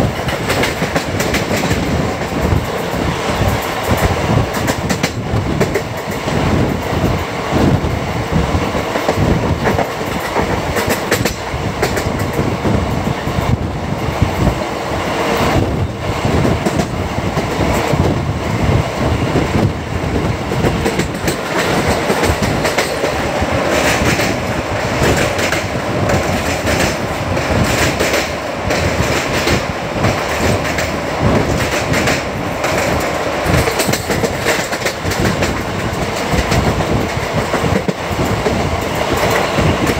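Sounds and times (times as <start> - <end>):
train wheels rumbling on rail: 0.0 - 39.9
clicking and clatter over track: 0.1 - 7.8, 8.8 - 13.6, 16.3 - 18.2, 20.5 - 39.9.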